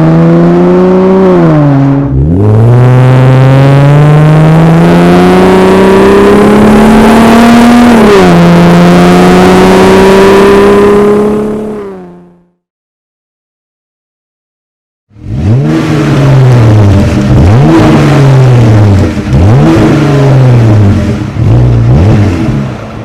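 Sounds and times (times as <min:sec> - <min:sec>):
car engine accelerating: 0:00.0 - 0:12.6, 0:15.1 - 0:23.0.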